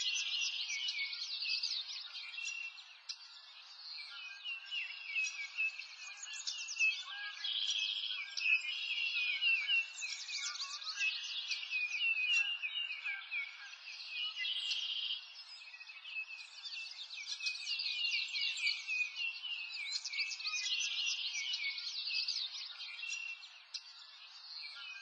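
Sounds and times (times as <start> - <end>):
chorus of birds chirping: 0.0 - 25.0.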